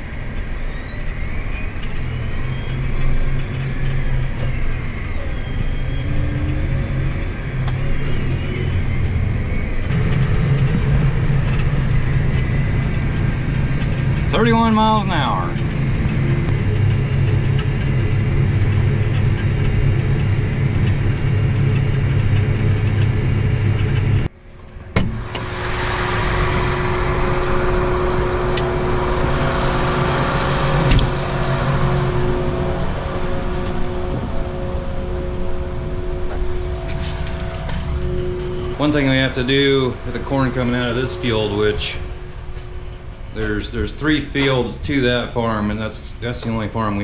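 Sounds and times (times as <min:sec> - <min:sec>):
steady engine drone: 0:00.0 - 0:47.0
vehicle engine running: 0:00.0 - 0:47.0.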